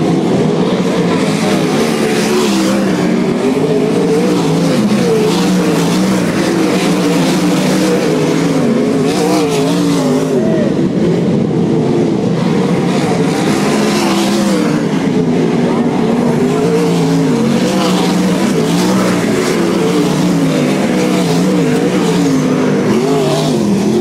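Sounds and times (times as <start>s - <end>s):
cars passing close: 0.0s - 24.0s
racing car engines: 0.0s - 24.0s.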